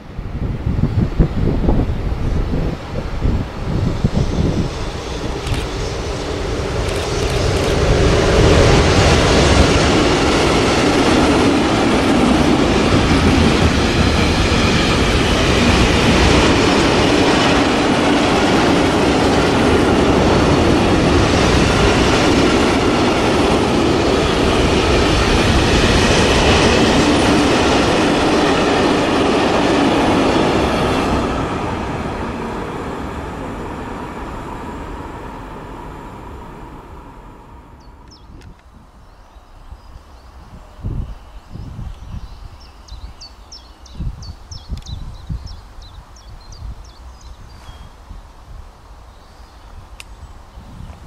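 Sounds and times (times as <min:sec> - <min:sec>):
freight train rolling past: 0:00.0 - 0:50.9.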